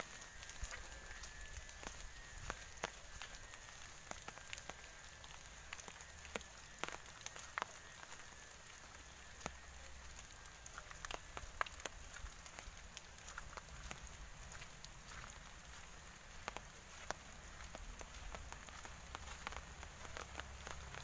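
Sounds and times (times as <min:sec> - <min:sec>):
rain hiss: 0:00.0 - 0:21.0
water drips and ticks: 0:00.0 - 0:21.0.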